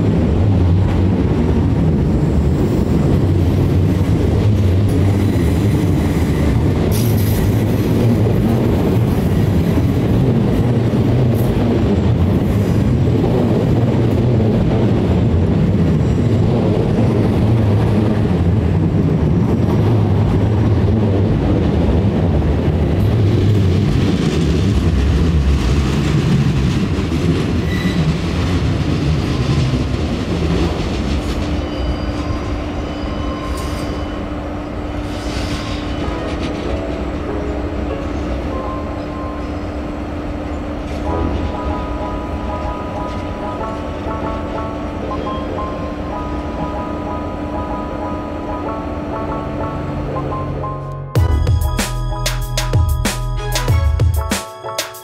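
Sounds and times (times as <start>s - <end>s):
train wheels rumbling on rail: 0.0s - 50.5s.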